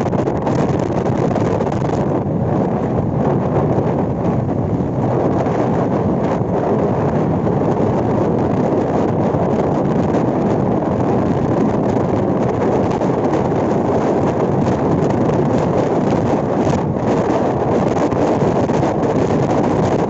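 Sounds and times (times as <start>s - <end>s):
car driving road and engine noise: 0.0s - 20.0s
wind rushing over microphone: 0.0s - 20.0s.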